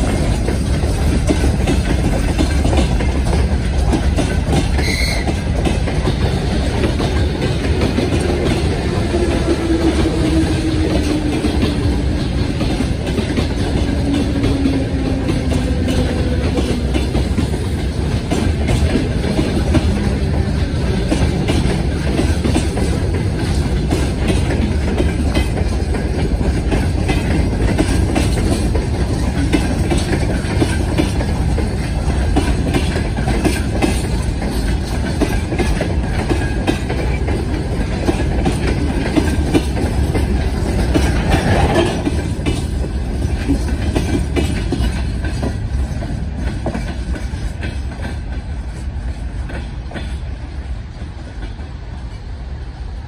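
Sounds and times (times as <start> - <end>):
train wheels clicking over rail joints: 0.0 - 53.0.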